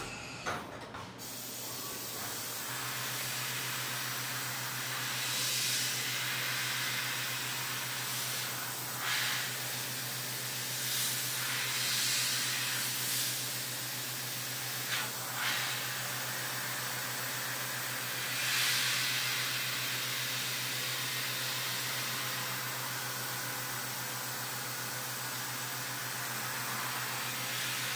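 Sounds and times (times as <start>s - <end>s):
coolant spray and cutting hiss: 1.2s - 27.9s.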